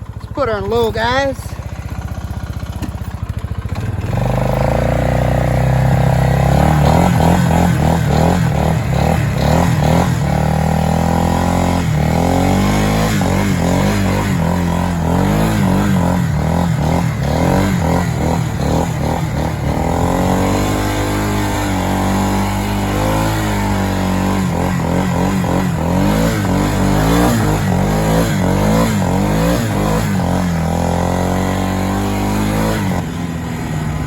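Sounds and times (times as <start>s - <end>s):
atv engine revving: 0.0s - 34.0s.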